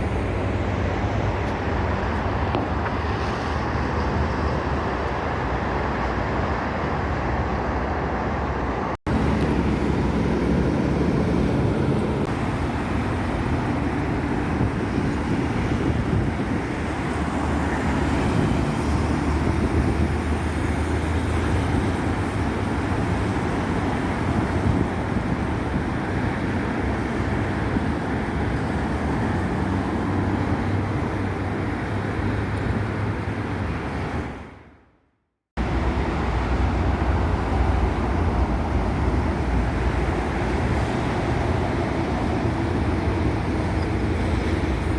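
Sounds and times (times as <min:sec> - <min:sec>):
highway traffic passing: 0:00.0 - 0:35.0, 0:35.6 - 0:44.9.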